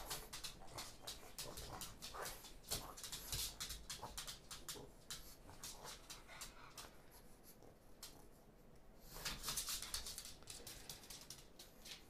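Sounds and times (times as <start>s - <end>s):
dog claws clicking on hardwood floor: 0.0s - 7.0s, 9.1s - 12.0s.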